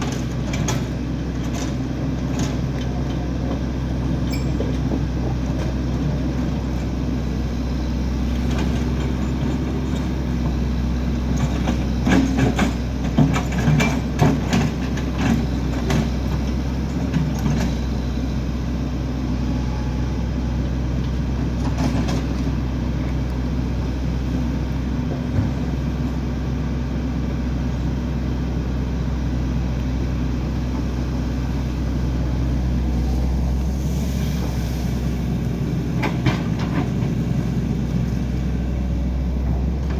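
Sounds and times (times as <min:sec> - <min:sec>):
heavy machine engine running: 0:00.0 - 0:39.9.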